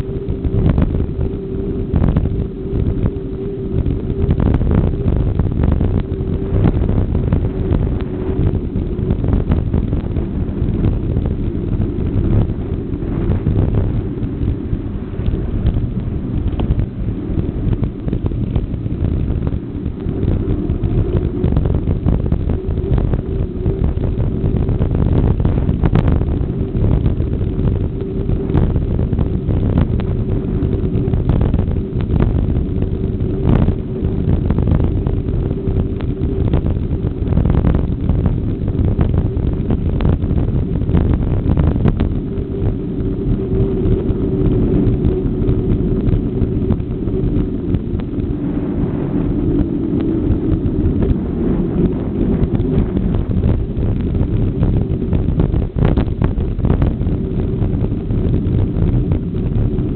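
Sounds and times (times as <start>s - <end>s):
faint steady hum: 0.0s - 59.9s
wind buffeting microphone: 0.0s - 59.9s.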